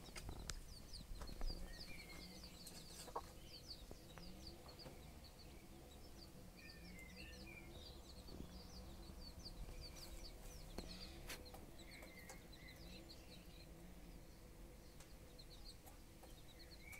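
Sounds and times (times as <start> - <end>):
chicks peeping: 0.0 - 16.9.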